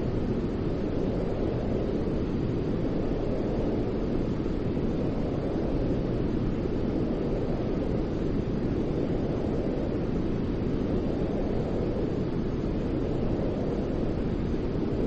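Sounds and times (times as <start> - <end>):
deep white noise: 0.0 - 15.0.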